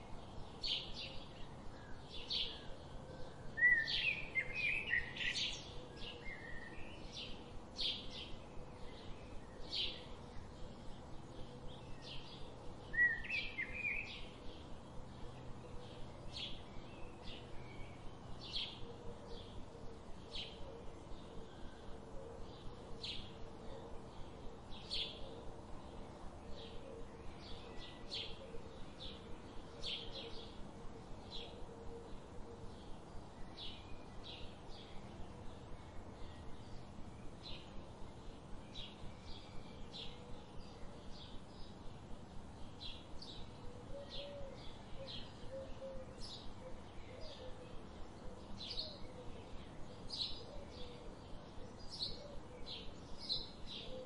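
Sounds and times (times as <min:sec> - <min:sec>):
faint background hiss: 0:00.0 - 0:54.0
small birds chirping: 0:03.6 - 0:54.0.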